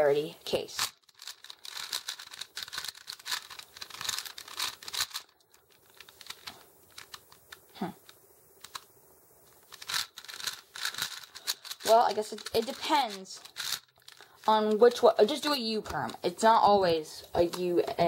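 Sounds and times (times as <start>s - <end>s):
puzzle cube clicking as turned: 0.7s - 8.9s, 9.5s - 16.2s.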